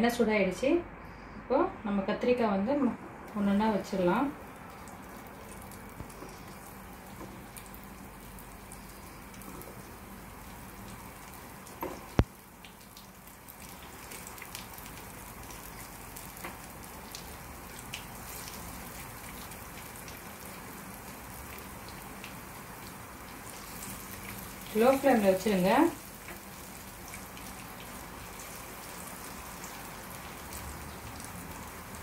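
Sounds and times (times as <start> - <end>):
vegetables sizzling in hot oil: 3.3 - 32.0.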